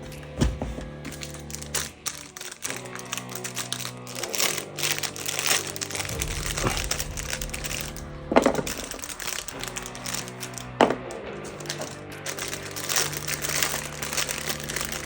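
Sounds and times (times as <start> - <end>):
background music: 0.0 - 15.0
plastic packaging crinkling: 0.0 - 15.0.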